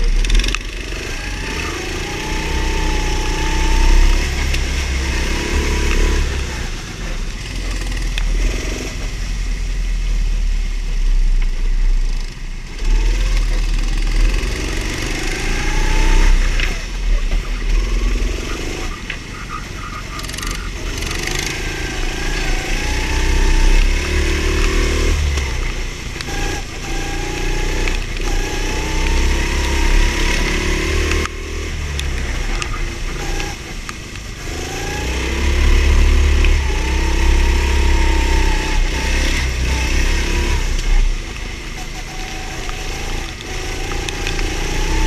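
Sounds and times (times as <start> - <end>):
go-kart engine revving: 0.0 - 9.4, 11.9 - 45.0
wet tyres on track: 0.0 - 45.0.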